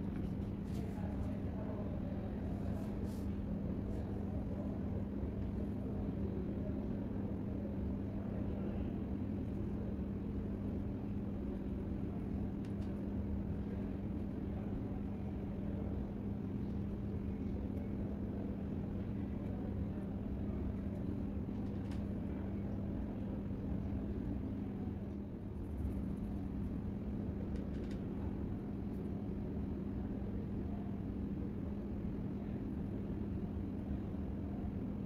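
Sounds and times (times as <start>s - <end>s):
constant low hum: 0.0s - 35.0s
low room rumble: 0.0s - 35.0s.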